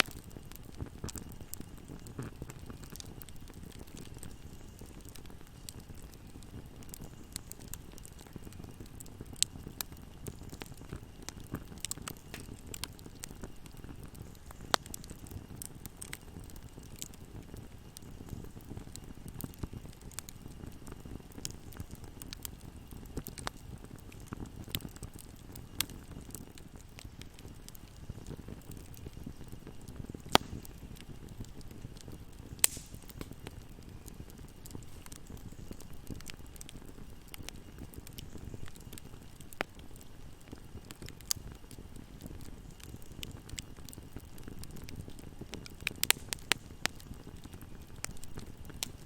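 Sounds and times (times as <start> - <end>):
fire burning: 0.0 - 49.0
fire crackles and pops: 0.0 - 49.0.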